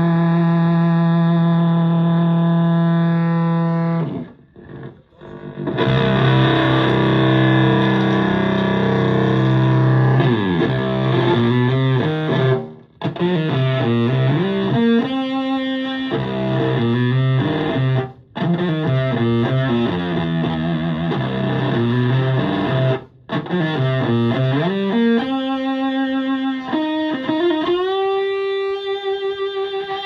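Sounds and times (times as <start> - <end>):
fuzzed electric guitar riff: 0.0 - 30.0.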